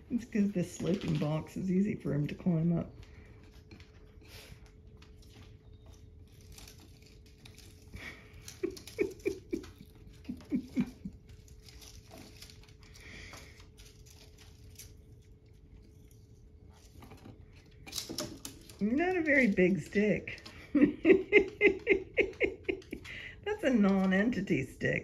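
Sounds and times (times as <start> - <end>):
sticks rustling and clattering: 0.0 - 24.8.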